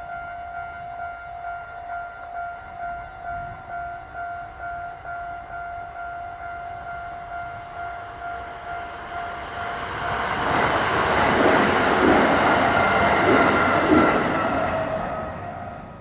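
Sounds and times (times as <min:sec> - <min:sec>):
electric train passing: 0:02.7 - 0:16.0.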